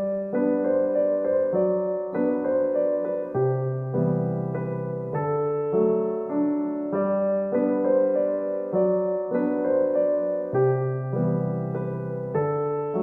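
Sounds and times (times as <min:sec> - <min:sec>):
solo piano piece: 0:00.0 - 0:13.0.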